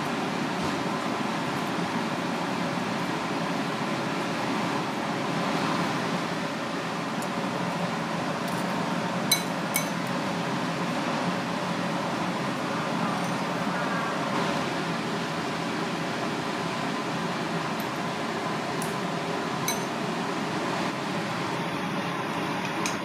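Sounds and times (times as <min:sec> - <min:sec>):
ventilation fan humming: 0:00.0 - 0:23.0.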